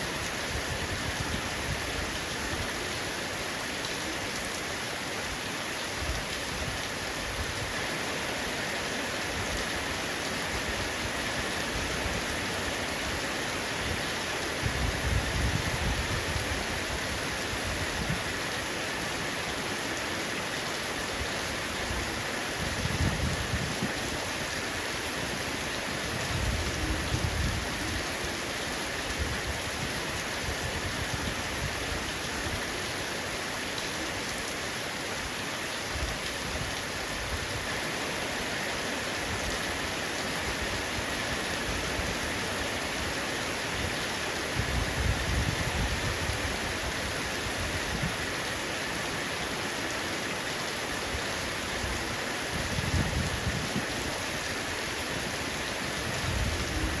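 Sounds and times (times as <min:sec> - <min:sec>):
heavy rain on a roof: 0:00.0 - 0:57.0.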